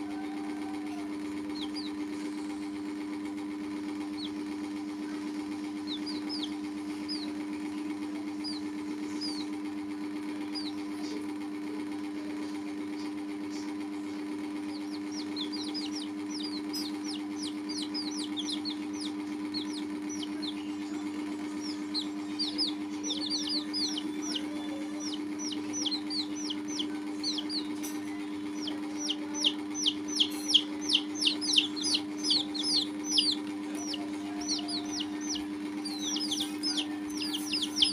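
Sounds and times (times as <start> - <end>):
baby chicks peeping: 0.0 - 37.9
steady low hum: 0.0 - 37.9.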